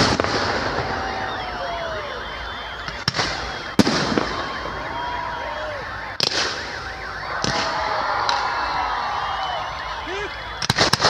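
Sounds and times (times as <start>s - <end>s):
fireworks bursting: 0.0s - 11.0s
warbling wailing tones: 0.0s - 11.0s.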